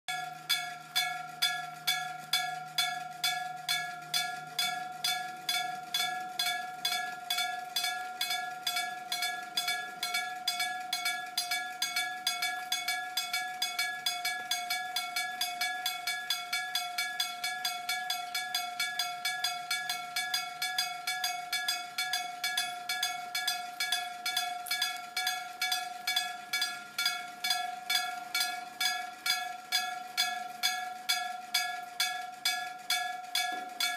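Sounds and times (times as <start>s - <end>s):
level-crossing warning bell ringing: 0.1s - 33.9s.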